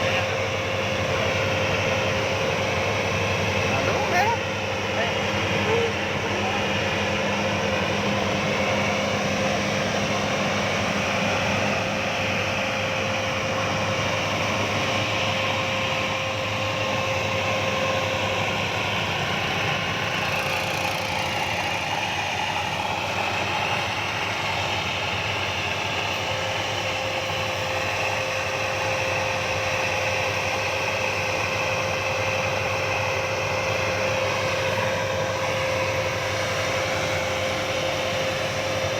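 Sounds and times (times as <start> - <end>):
machine engine droning: 0.0 - 38.9.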